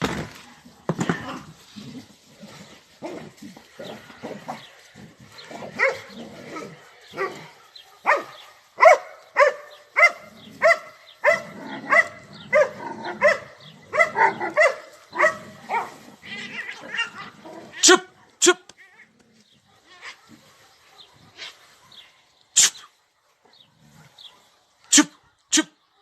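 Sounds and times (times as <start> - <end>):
dogs barking: 1.1 - 26.0.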